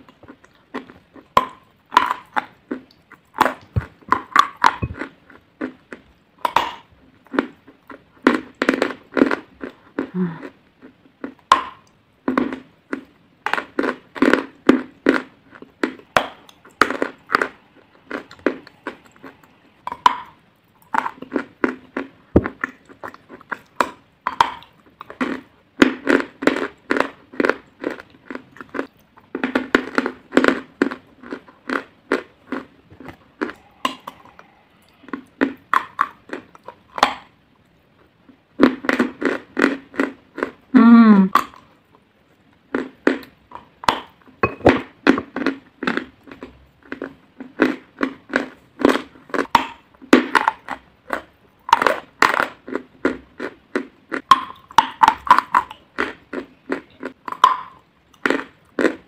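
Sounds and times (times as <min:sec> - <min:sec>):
chalk crunching and chewing: 0:00.0 - 0:40.6, 0:45.0 - 0:59.0.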